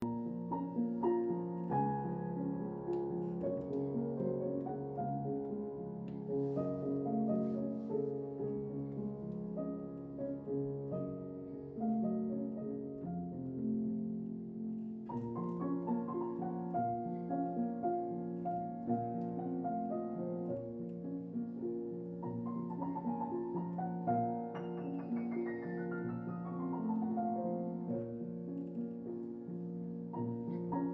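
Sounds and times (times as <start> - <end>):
slow gentle piano music: 0.0 - 30.9.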